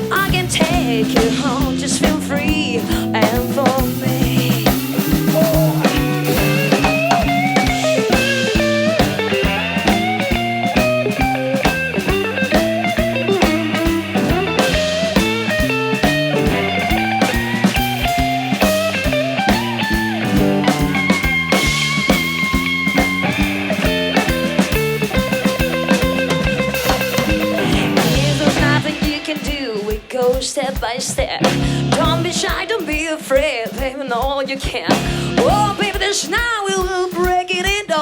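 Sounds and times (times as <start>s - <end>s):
bass guitar: 0.0s - 29.6s, 31.3s - 32.7s, 34.9s - 36.0s
electric guitar lead: 0.0s - 30.3s, 31.4s - 33.0s, 34.9s - 36.0s
drum kit beat: 0.0s - 38.0s.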